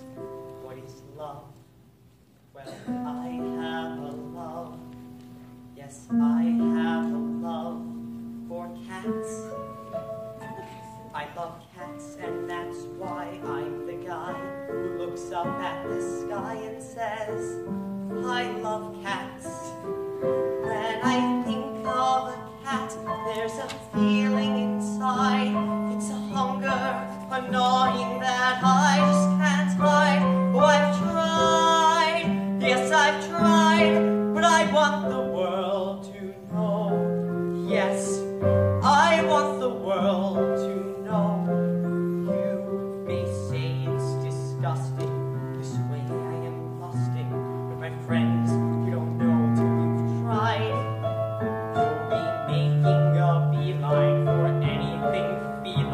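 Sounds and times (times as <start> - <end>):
piano playing show tune: 0.0 - 1.7, 2.6 - 55.9
person singing with vibrato: 5.6 - 55.9.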